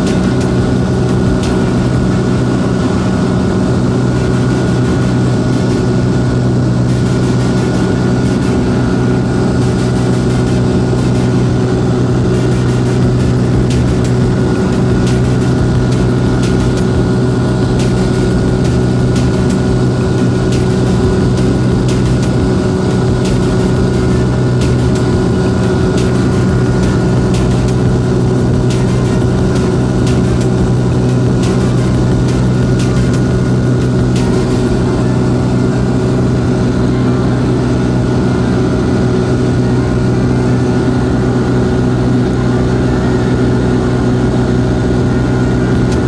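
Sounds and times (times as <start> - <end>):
propeller airplane engine droning: 0.0 - 46.0.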